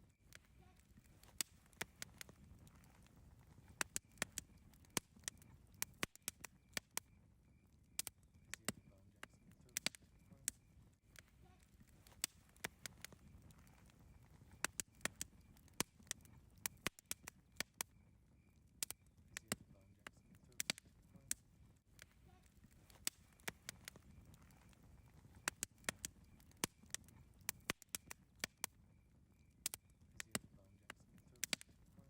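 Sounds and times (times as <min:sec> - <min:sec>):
campfire crackling: 0:00.0 - 0:32.0.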